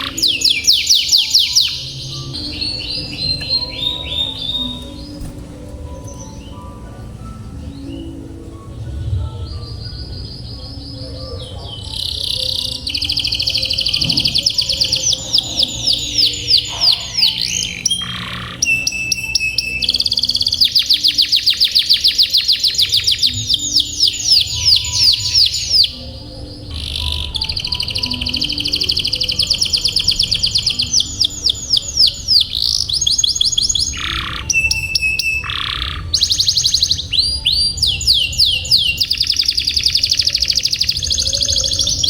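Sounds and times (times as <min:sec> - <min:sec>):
canary singing trills: 0:00.0 - 0:42.0.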